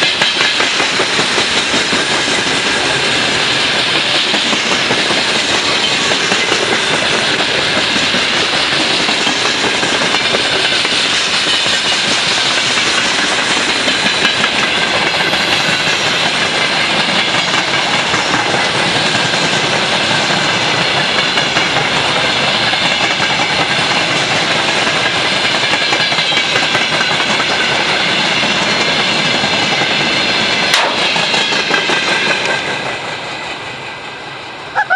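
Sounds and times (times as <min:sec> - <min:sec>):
train wheels clattering over rails: 0:00.0 - 0:34.7.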